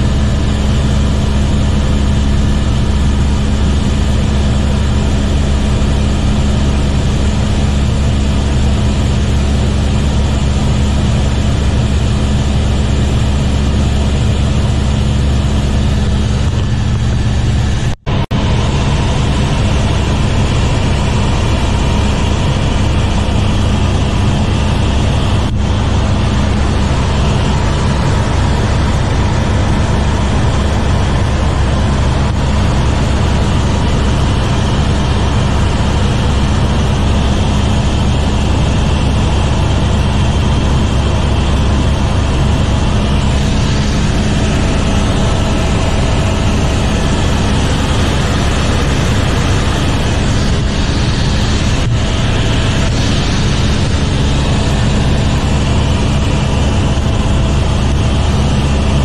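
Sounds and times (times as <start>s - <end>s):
helicopter turbine and rotor drone: 0.0s - 59.0s.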